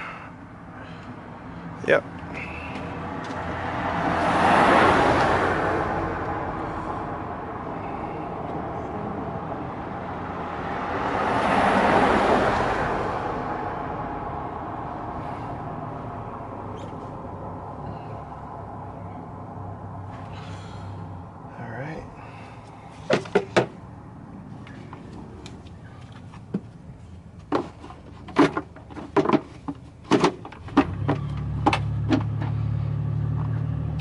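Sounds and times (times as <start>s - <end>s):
low traffic rumble: 0.0s - 34.0s
vehicles driving past: 0.0s - 34.0s.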